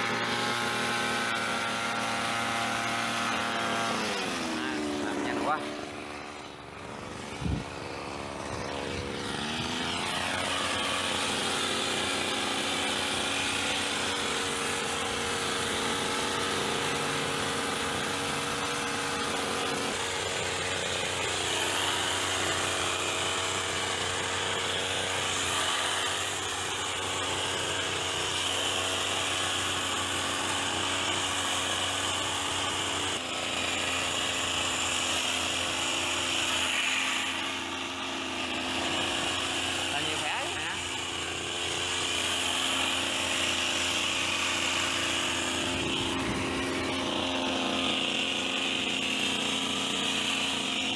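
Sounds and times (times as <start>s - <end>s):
hedge trimmer engine buzzing: 0.0s - 50.9s.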